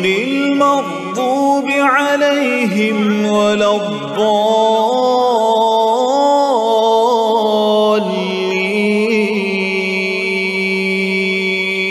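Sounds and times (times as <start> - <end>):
person chanting melodically: 0.0 - 11.9.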